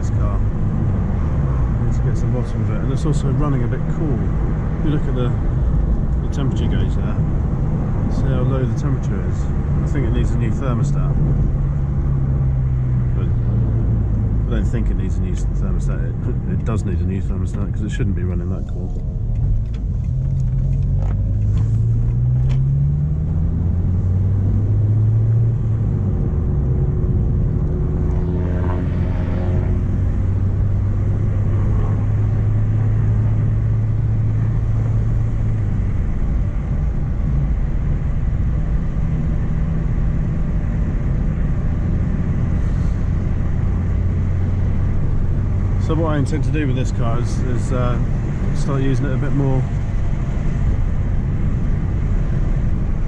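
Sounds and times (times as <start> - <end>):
car engine from inside cabin: 0.0 - 53.0.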